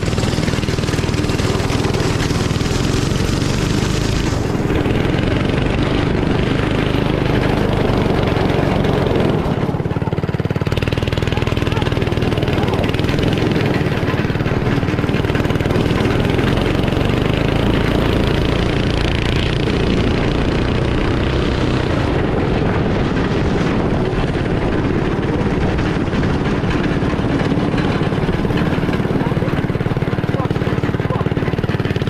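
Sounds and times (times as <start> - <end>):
small engine running: 0.0 - 32.0
wind and road noise: 0.0 - 32.0.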